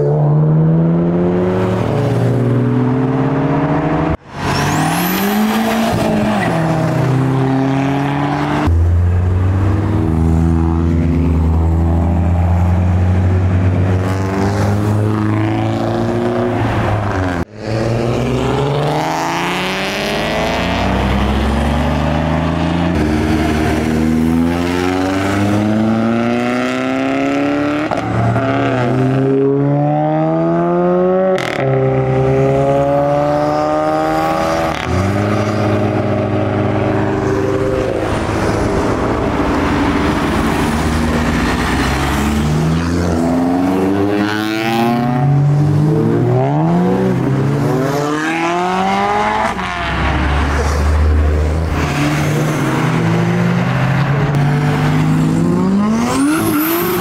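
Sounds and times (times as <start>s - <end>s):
car engines accelerating hard: 0.0s - 57.0s.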